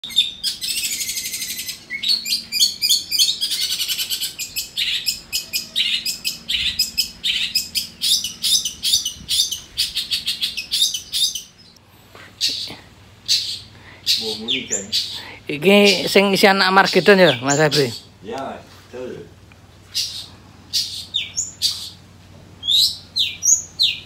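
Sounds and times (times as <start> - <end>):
bird chattering song: 0.0 - 18.4, 19.6 - 24.0.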